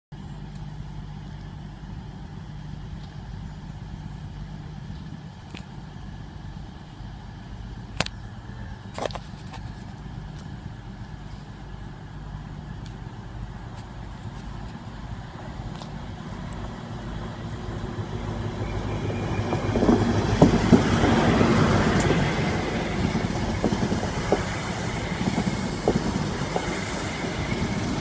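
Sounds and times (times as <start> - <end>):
diesel locomotive drone: 0.1 - 28.0.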